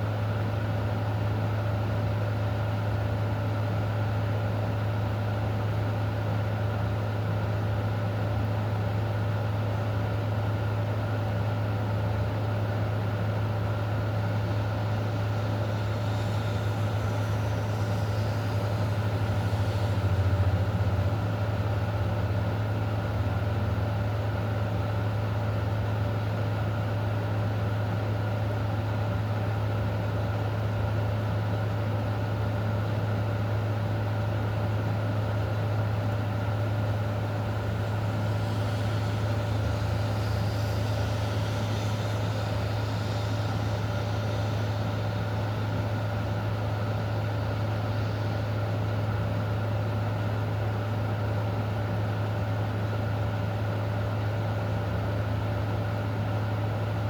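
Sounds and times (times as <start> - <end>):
constant low hum: 0.0 - 57.0.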